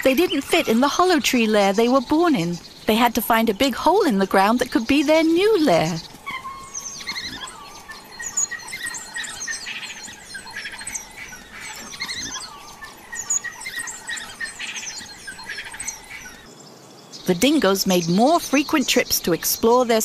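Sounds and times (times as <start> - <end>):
birds chirping and calling: 0.0 - 20.0.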